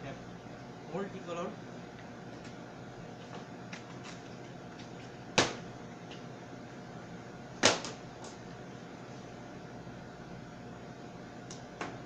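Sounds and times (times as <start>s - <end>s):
kitchen ventilation hum: 0.0s - 12.0s.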